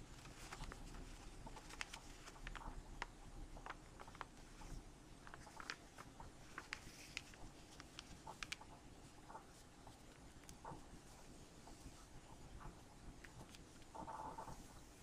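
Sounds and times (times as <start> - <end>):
paper being folded: 0.0 - 15.0.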